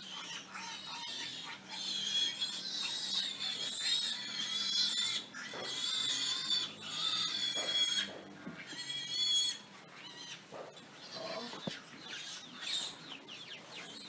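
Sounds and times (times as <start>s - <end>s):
pigs squealing: 0.0s - 13.3s.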